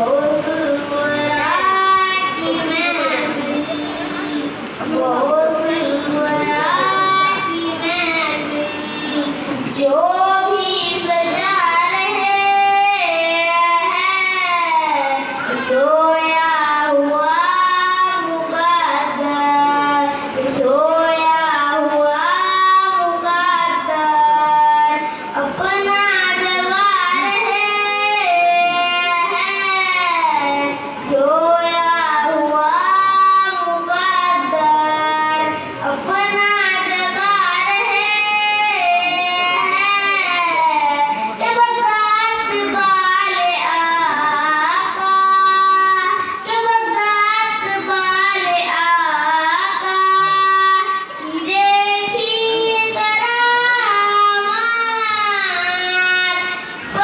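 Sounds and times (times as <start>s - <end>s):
boy singing devotional song: 0.0s - 57.0s.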